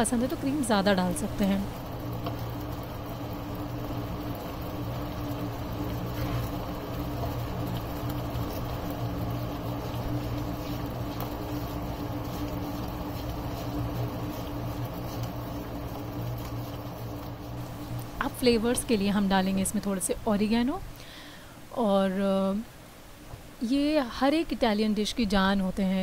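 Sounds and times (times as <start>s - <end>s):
kitchen appliance humming: 0.0s - 21.4s.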